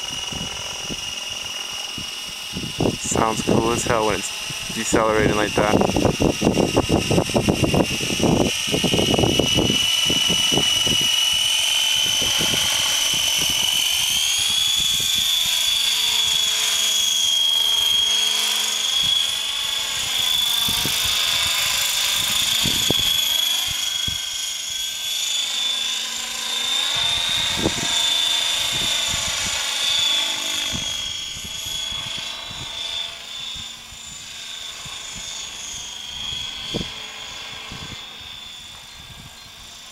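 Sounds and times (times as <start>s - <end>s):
rc helicopter motor and rotor whine: 0.0s - 39.9s.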